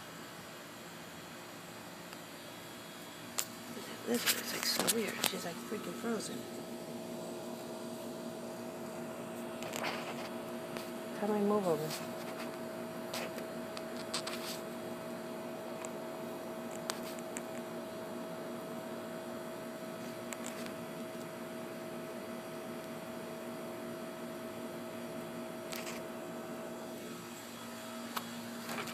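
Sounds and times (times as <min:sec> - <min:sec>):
constant hiss: 0:00.0 - 0:28.9
steady tonal hum: 0:00.0 - 0:28.9.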